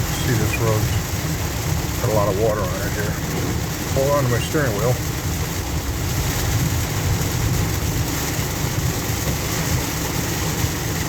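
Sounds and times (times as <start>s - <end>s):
low road rumble: 0.0s - 11.0s.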